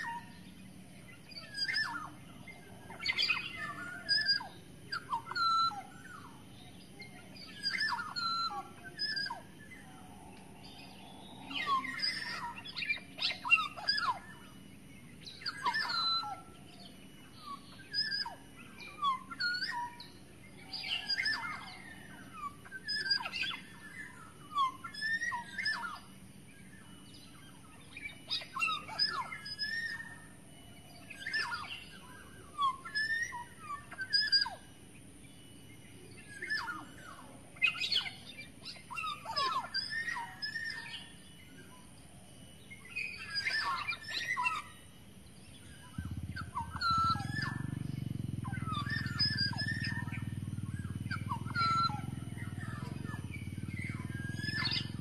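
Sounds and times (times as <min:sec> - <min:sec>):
bird singing fluty whistles: 0:00.0 - 0:55.0
steady low hum: 0:00.0 - 0:55.0.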